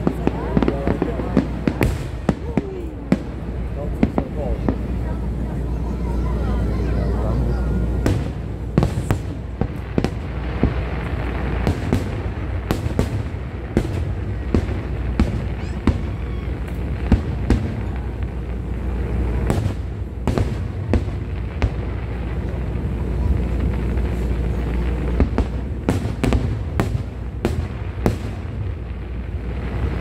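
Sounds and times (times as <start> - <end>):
fireworks bangs: 0.0 - 30.0
steady low rumble: 0.0 - 30.0.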